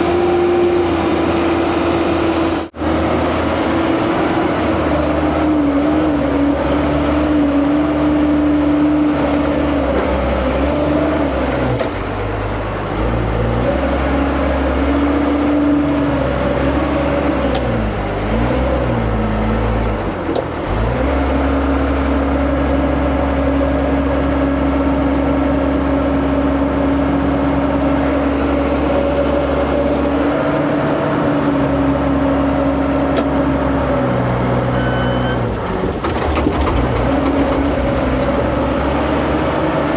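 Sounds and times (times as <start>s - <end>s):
diesel earthmoving machine whining: 0.0s - 39.9s.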